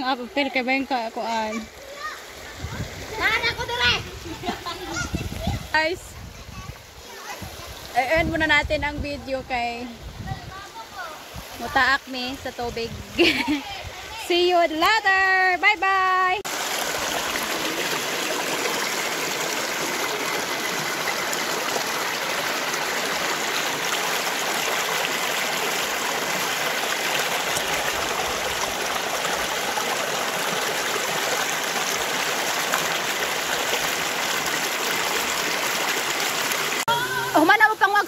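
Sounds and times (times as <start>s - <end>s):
river water running over rocks: 0.0s - 6.1s, 6.8s - 38.0s.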